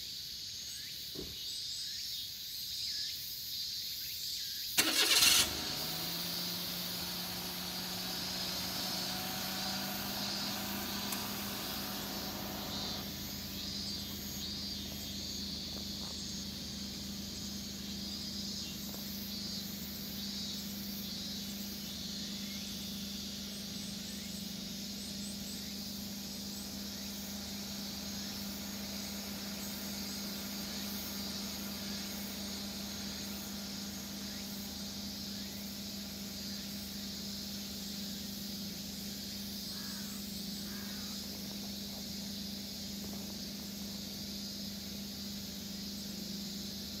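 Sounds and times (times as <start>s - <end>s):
insects chirping shrilly: 0.0s - 47.0s
steady low hum: 5.5s - 47.0s.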